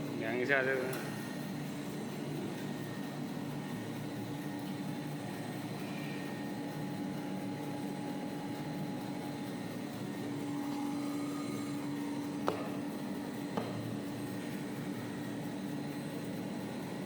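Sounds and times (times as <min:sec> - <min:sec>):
band saw machine humming: 0:00.9 - 0:17.0.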